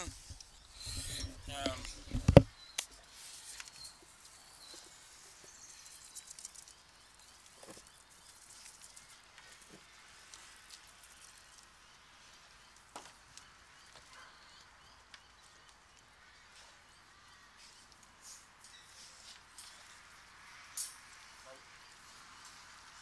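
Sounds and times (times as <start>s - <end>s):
outdoor yard ambience: 0.0s - 23.0s.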